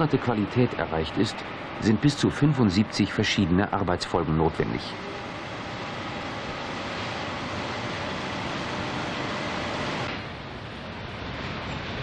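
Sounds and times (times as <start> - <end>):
machine tools running: 0.0 - 10.4.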